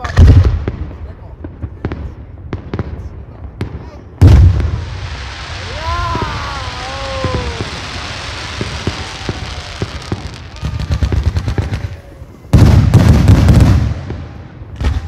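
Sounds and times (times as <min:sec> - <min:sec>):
fireworks crackling bursts: 0:00.0 - 0:15.0.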